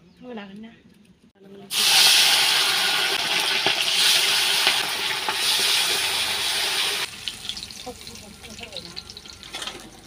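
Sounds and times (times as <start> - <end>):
fish sizzling in hot oil: 1.7 - 10.0.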